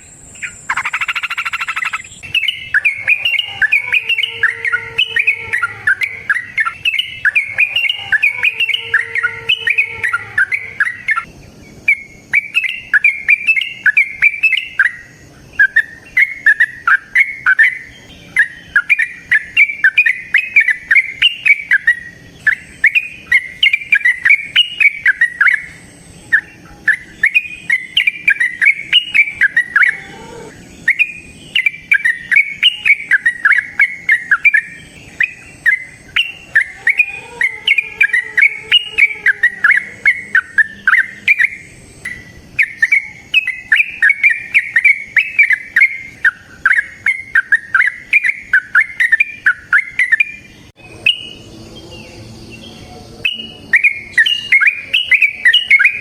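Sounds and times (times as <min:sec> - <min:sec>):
bird singing chirping notes: 0:00.0 - 0:56.0.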